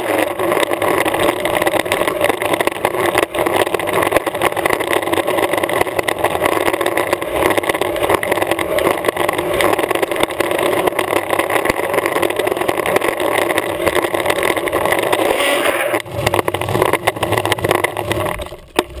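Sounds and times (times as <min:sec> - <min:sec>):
longboard wheels rolling on asphalt: 0:00.0 - 0:19.0.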